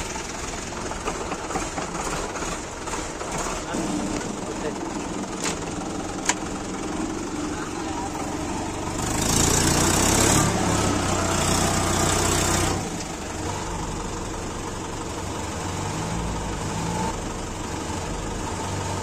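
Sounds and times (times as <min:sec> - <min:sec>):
tractor engine working hard: 0:00.0 - 0:19.0.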